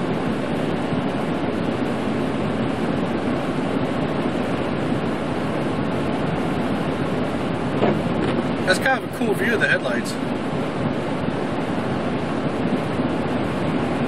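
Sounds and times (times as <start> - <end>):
defroster fan blowing: 0.0 - 14.0
tyre and engine noise: 0.0 - 14.0.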